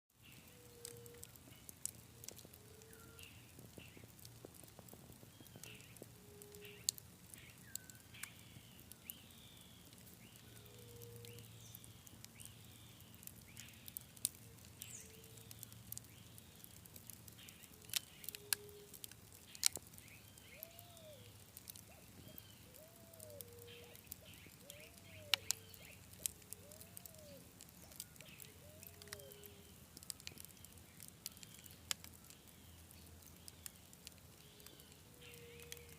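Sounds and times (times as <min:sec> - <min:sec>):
campfire crackling and popping: 0:00.2 - 0:35.9.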